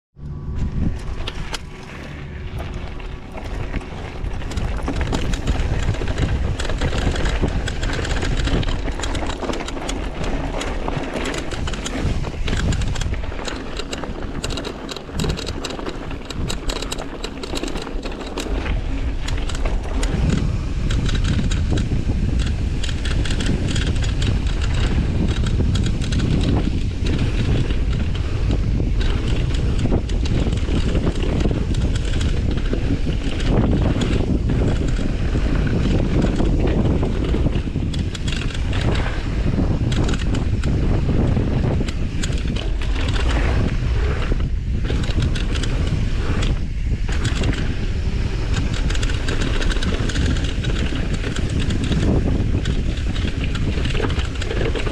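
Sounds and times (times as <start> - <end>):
wind noise on microphone: 0.2 - 54.9
bike frame rattling over bumps: 0.6 - 54.9.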